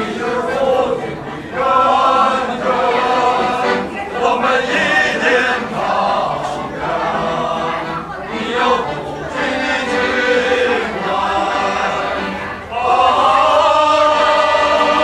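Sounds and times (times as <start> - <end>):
group singing in chorus: 0.0 - 15.0.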